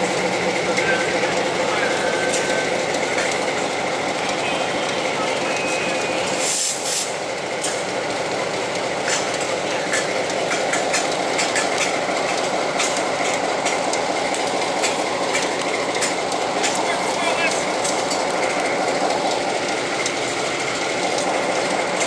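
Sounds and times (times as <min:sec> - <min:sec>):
locomotive engine running: 0:00.0 - 0:22.0
wheels clicking on rails: 0:00.0 - 0:22.0.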